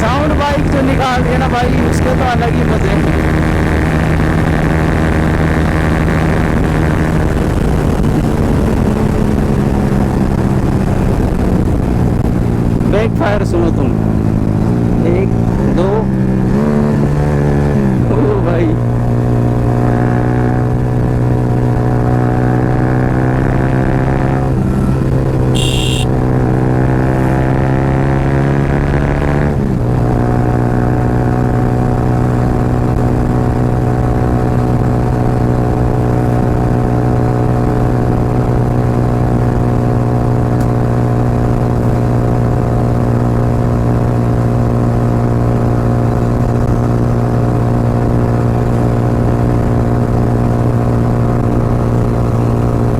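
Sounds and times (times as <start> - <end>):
motorcycle engine at highway speed: 0.0 - 52.9.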